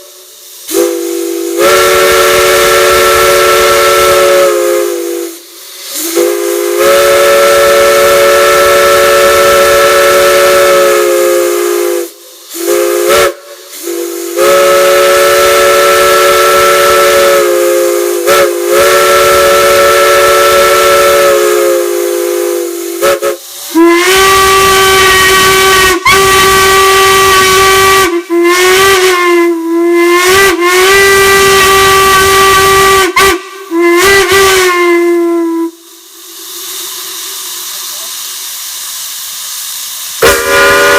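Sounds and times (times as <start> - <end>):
chime steam whistle: 0.0 - 38.2, 39.5 - 40.9
single-note steam whistle blasts: 0.0 - 40.9
steam hiss: 0.0 - 40.9.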